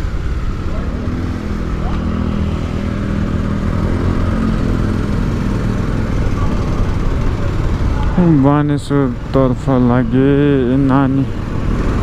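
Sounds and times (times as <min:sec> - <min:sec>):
motorcycle engine running: 0:00.0 - 0:12.0
road noise rush: 0:00.0 - 0:12.0.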